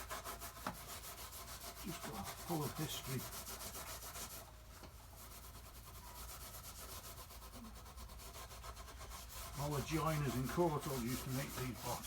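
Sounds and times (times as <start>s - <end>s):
wire wool rubbing wood: 0.0s - 12.0s.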